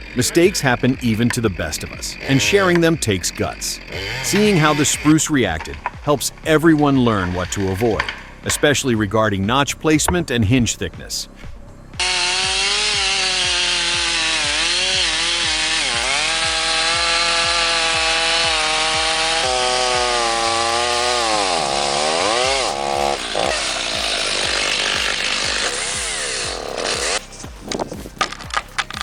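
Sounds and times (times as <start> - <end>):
chainsaw cutting into tree: 0.0 - 6.3, 12.0 - 29.0.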